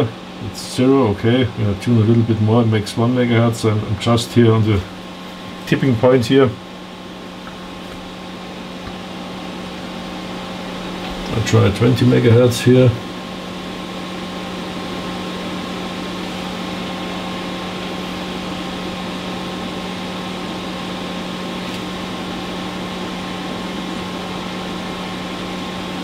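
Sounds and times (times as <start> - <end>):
test equipment humming: 0.0 - 26.0.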